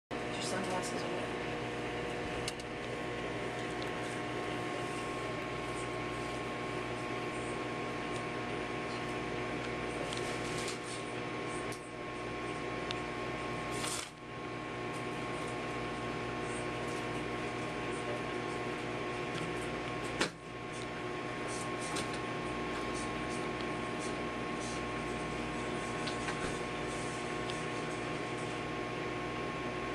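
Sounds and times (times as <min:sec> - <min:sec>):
microwave oven humming: 0:00.1 - 0:29.9.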